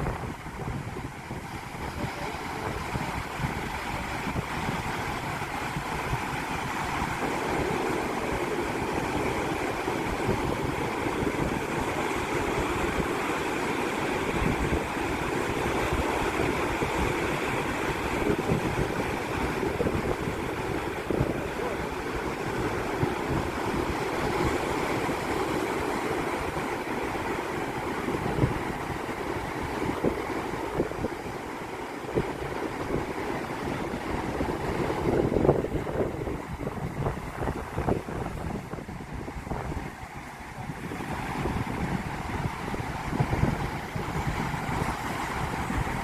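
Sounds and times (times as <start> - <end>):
sea surf washing onto shore: 0.0 - 46.0
wind buffeting microphone: 0.0 - 46.0.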